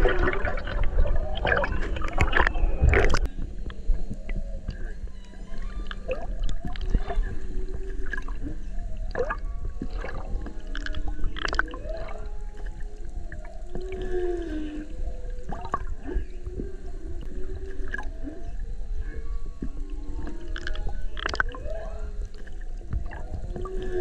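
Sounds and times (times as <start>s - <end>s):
low underwater rumble: 0.0s - 24.0s
whale moans and whoops: 0.0s - 24.0s.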